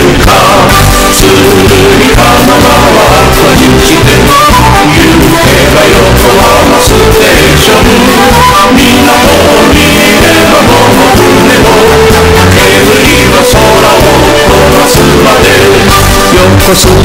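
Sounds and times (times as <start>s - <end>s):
distorted music with beat: 0.0s - 17.0s.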